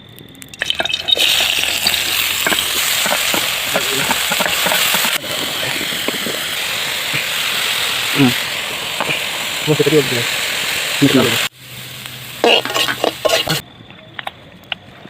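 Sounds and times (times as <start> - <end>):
food sizzling in a pan: 0.5 - 13.6.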